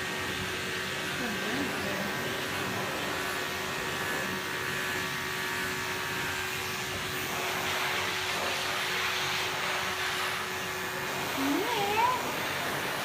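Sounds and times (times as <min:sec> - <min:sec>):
electric grooming clippers whirring: 0:00.0 - 0:13.0.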